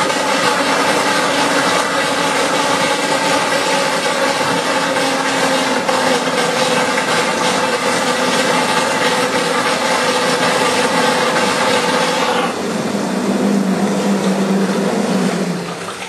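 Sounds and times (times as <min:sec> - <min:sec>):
mixer whirring: 0:00.0 - 0:16.0.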